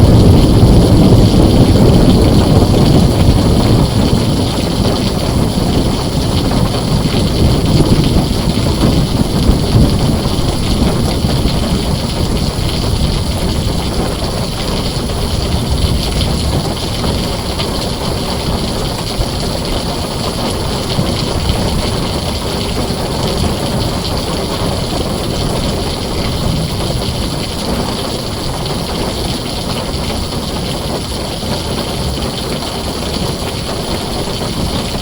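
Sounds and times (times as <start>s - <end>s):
heavy rain on a tin roof: 0.0s - 35.0s
low roll of thunder: 0.0s - 35.0s.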